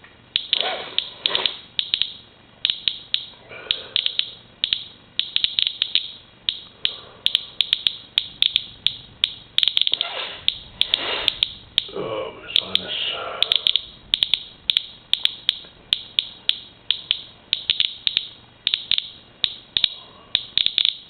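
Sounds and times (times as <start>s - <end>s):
geiger counter clicking: 0.3s - 11.9s, 12.5s - 21.0s.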